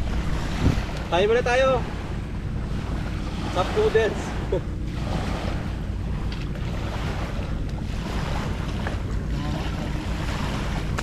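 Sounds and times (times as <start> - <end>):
boat engine droning: 0.0 - 11.0
wind buffeting microphone: 0.0 - 11.0.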